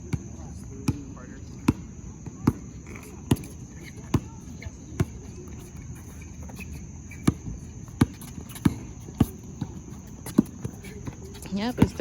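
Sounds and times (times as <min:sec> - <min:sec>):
basketball bouncing on hard court: 0:01.6 - 0:12.0.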